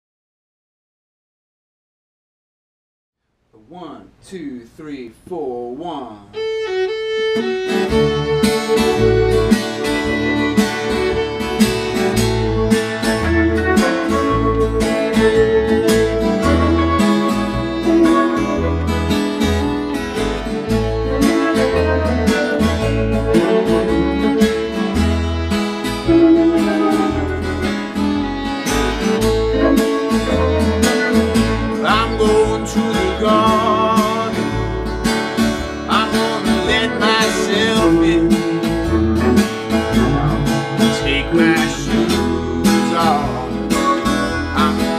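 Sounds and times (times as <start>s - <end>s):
fiddle: 6.3s - 44.9s
bass line: 6.4s - 44.9s
sliding bent guitar notes: 6.4s - 44.9s
strummed acoustic guitar: 6.5s - 44.9s
electric guitar: 6.7s - 44.9s.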